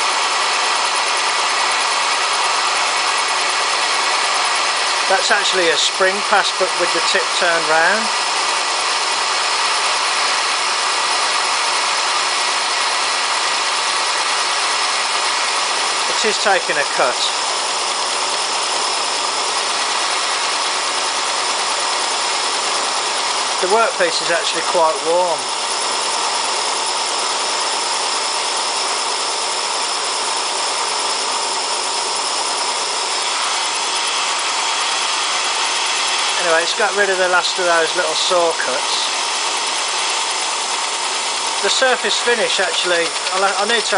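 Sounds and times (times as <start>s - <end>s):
constant high whine: 0.0s - 43.9s
milling machine cutting metal: 0.0s - 43.9s.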